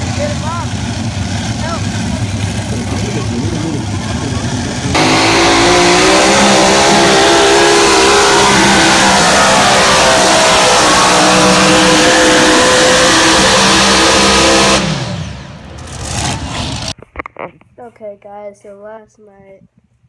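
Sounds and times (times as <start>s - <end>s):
loud engine running flat out: 0.0s - 17.0s.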